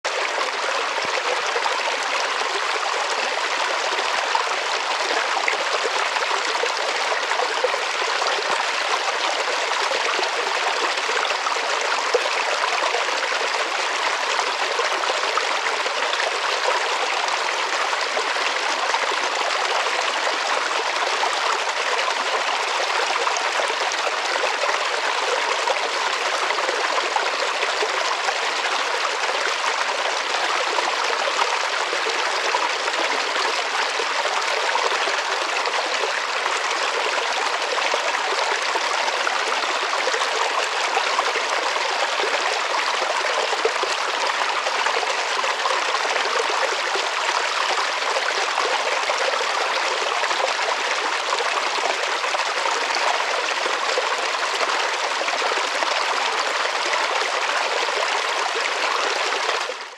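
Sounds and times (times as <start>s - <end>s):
stream trickling over rocks: 0.1s - 59.9s.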